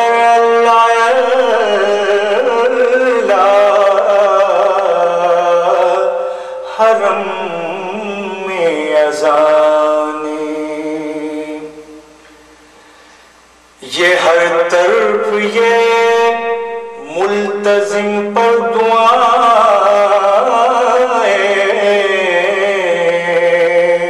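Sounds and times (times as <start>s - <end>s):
person singing unaccompanied: 0.0s - 12.0s, 13.8s - 24.0s.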